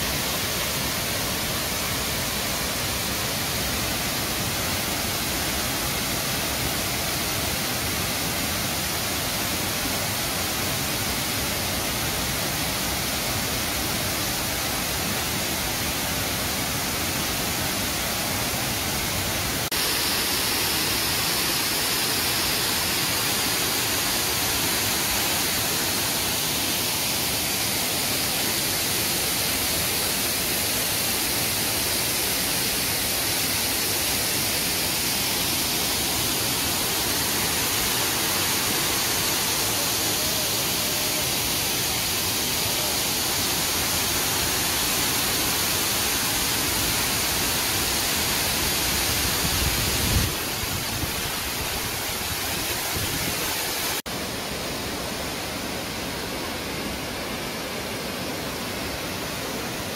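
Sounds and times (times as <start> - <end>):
waterfall roaring into pool: 0.0 - 59.9.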